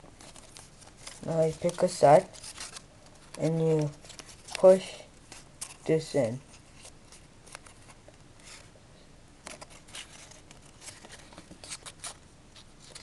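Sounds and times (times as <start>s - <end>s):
paper rustling and crinkling: 0.1s - 8.7s, 9.4s - 13.0s.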